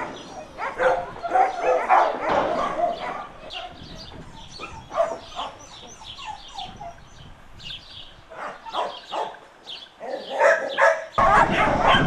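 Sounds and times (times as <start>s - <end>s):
dogs barking and yelping: 0.0s - 7.3s, 8.3s - 12.0s.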